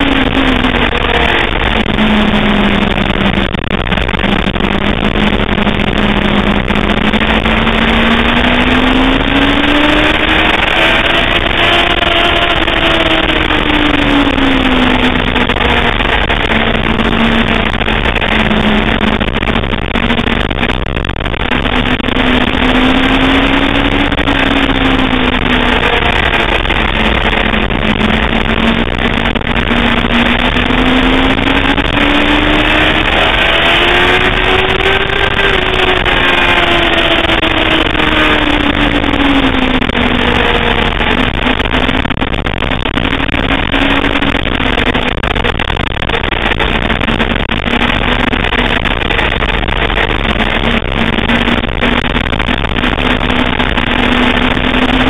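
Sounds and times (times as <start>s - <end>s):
motorcycle engine running: 0.0s - 55.0s
rushing wind noise: 0.0s - 55.0s.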